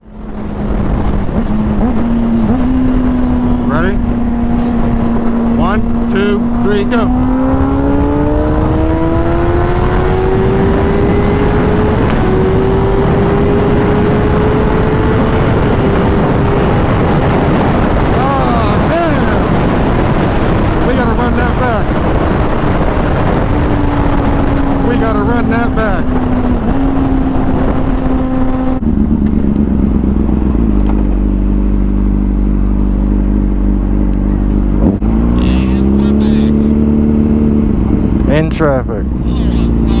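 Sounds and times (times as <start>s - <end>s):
motorcycle engine revving: 0.0s - 40.0s
wind rush on microphone: 0.0s - 40.0s.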